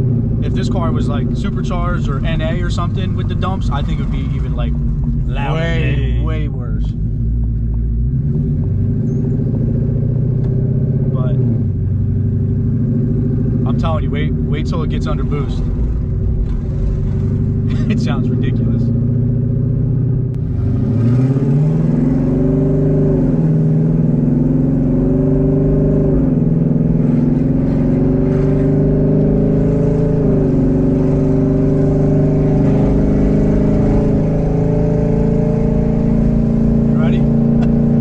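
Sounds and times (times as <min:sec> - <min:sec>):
car engine accelerating hard: 0:00.0 - 0:38.0.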